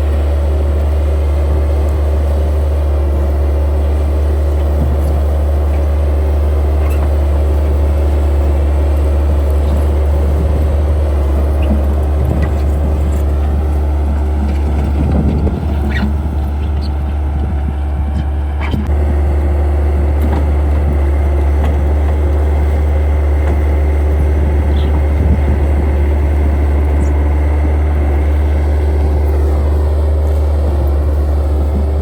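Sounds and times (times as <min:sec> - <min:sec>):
skid steer engine droning: 0:00.0 - 0:32.0.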